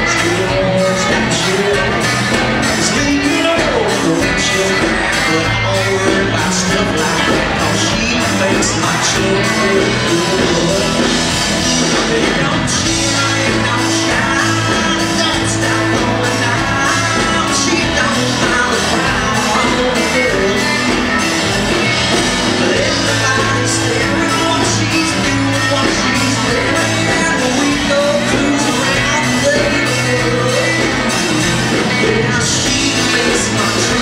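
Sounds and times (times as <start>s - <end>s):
bass guitar: 0.0s - 34.0s
drum kit with cymbals: 0.0s - 34.0s
electric guitar: 0.0s - 34.0s
man singing into microphone: 0.0s - 34.0s.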